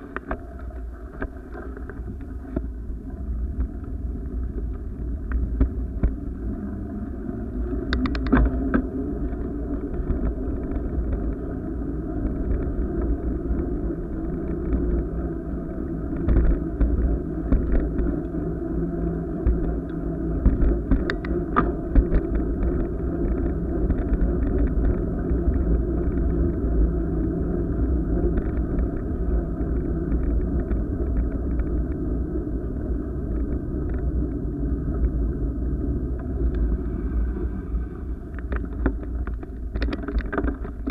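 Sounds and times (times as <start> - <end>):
low wind rumble: 0.0 - 40.9
wheels rolling on paved path: 0.0 - 40.9.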